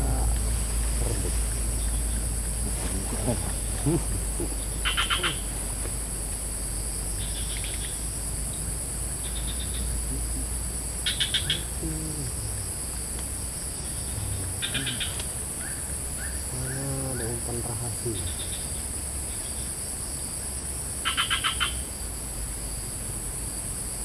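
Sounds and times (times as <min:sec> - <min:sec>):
high-pitched insect drone: 0:00.0 - 0:19.7
rapid pulsed insect trills: 0:00.0 - 0:24.0.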